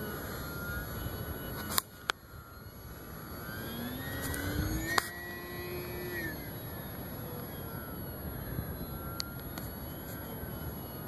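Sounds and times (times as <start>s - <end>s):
electric model plane motor whining: 0.0s - 11.0s.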